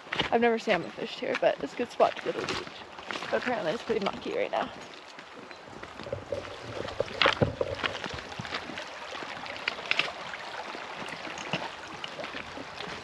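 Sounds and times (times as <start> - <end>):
flowing creek water: 0.0 - 13.0
footsteps on loose stones: 0.0 - 13.0.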